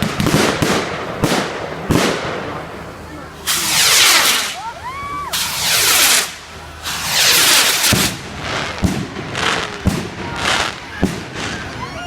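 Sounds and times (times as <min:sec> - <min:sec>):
firework bangs low thuds: 0:00.0 - 0:04.6, 0:05.3 - 0:11.8
fireworks crackling hiss: 0:00.0 - 0:12.0.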